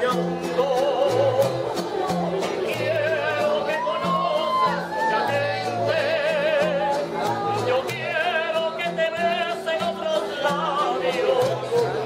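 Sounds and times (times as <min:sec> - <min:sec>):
plucked strings: 0:00.0 - 0:12.0.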